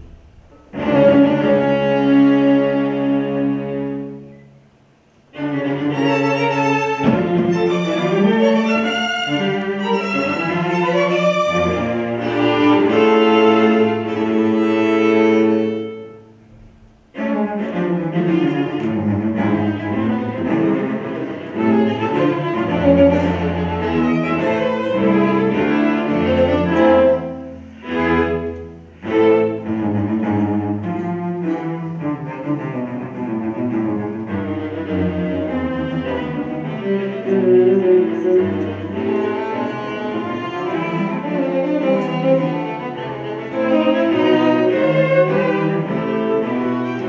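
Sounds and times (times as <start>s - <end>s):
string quartet playing: 0.0s - 47.0s.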